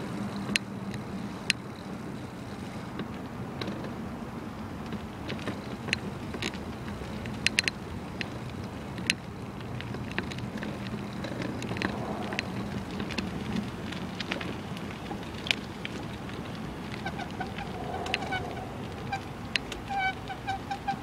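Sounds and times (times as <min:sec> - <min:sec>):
bicycle clicks and rattles: 0:00.0 - 0:21.0
bicycle tyre and wind noise: 0:00.0 - 0:21.0.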